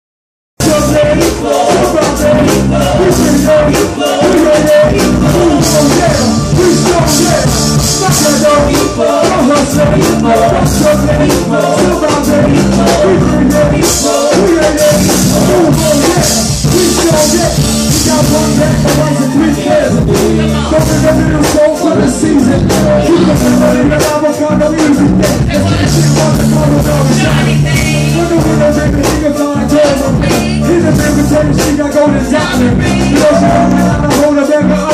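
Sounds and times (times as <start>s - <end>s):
amplified rapping vocals: 0.6s - 34.9s
bass-heavy beat: 0.6s - 34.9s.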